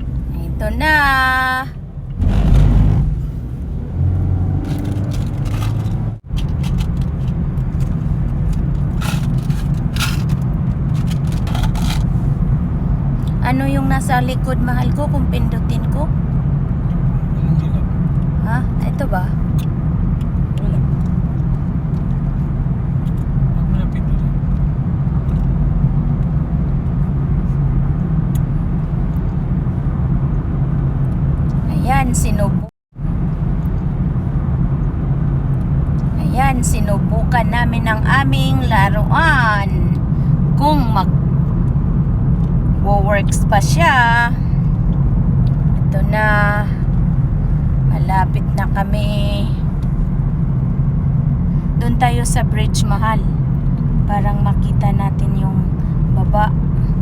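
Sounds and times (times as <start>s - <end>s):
road and engine rumble: 0.0s - 57.0s.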